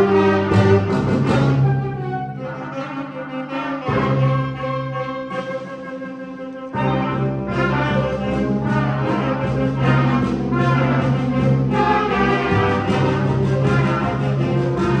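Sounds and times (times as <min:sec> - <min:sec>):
brass sustained chords: 0:00.0 - 0:15.0
orchestra playing: 0:00.0 - 0:15.0.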